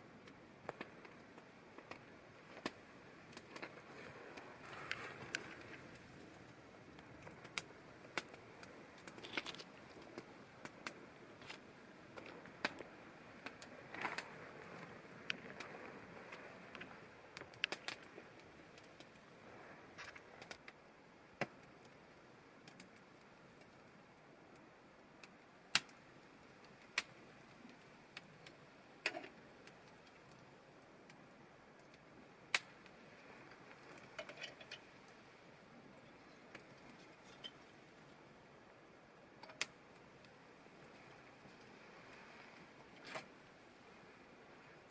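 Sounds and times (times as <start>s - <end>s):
faint steady hiss: 0.0s - 44.9s
small clicks and snaps: 0.2s - 15.7s, 16.3s - 19.2s, 20.0s - 20.8s, 22.6s - 23.8s, 24.5s - 35.2s, 36.3s - 38.2s, 39.4s - 42.2s, 42.9s - 43.3s
campfire pops and crackles: 0.2s - 19.3s, 19.9s - 38.3s, 39.2s - 43.6s.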